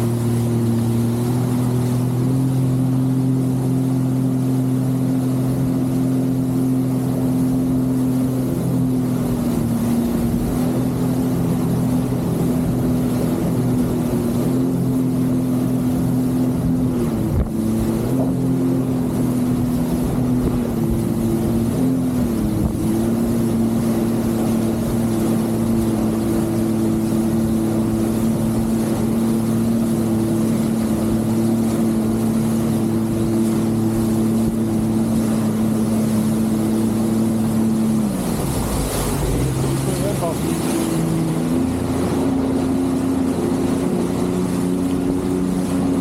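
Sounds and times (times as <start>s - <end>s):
jet ski engine running: 0.0s - 46.0s.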